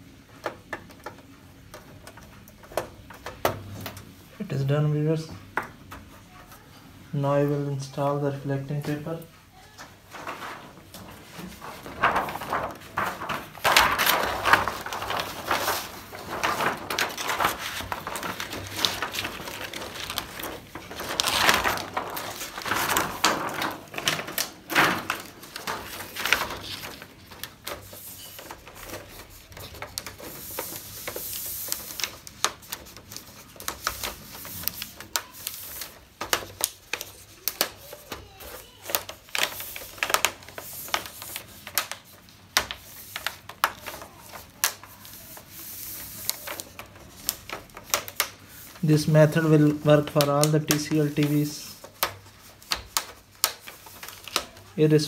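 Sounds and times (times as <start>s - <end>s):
plastic sheet crinkling and rustling: 0.0s - 55.0s.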